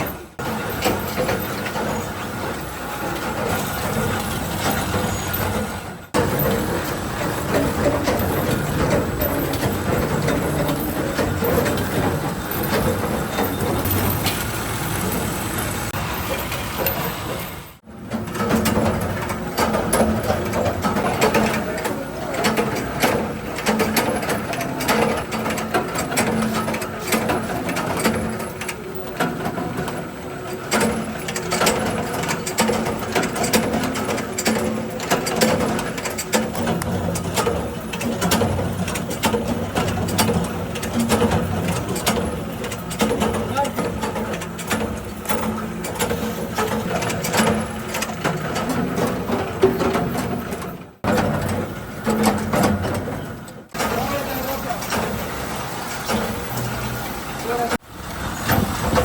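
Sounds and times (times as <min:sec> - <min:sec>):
rapid mechanical clicks and knocks: 0:00.0 - 0:59.0
workshop machinery running: 0:00.0 - 0:59.0.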